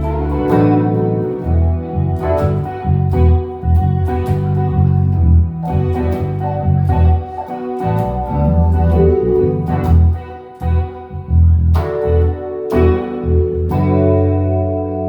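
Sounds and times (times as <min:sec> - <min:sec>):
bass line: 0:00.0 - 0:15.0
organ chords: 0:00.0 - 0:15.0.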